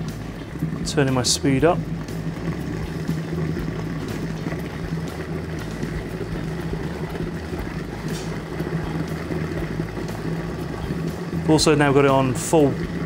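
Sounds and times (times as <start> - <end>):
blender motor running: 0.0 - 13.0.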